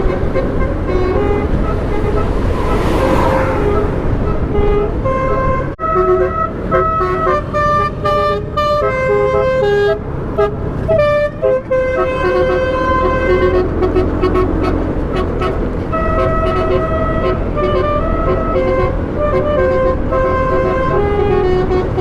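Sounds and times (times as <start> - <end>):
car horn playing a quick tune: 0.0 - 22.0
road noise: 0.0 - 22.0.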